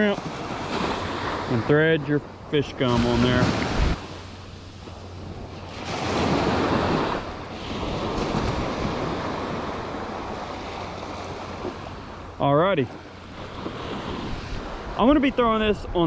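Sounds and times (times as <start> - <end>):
surf washing up sandy beach: 0.0 - 16.0.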